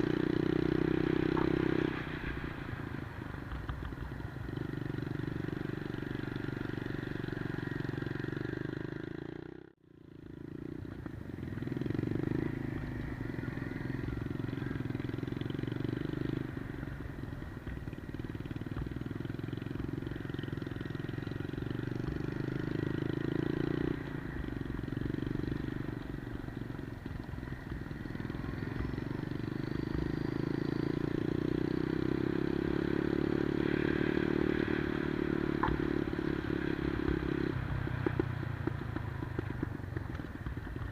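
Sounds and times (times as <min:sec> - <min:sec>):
minibike engine running: 0:03.9 - 0:40.9.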